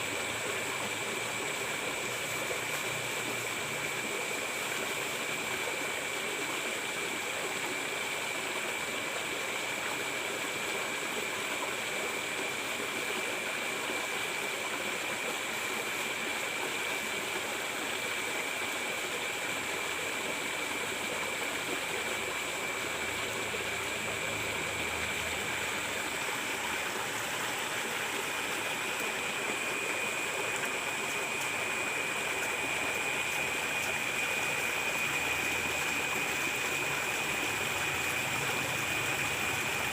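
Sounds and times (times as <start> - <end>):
water running through ditch: 0.0 - 39.9.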